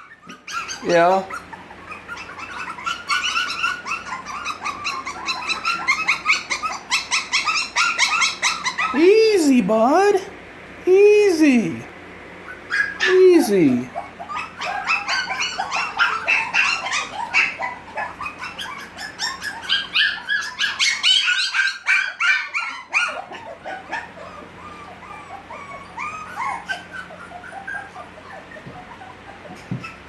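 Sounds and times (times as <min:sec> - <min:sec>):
puppies whining and yipping: 0:00.0 - 0:09.0, 0:12.4 - 0:30.0.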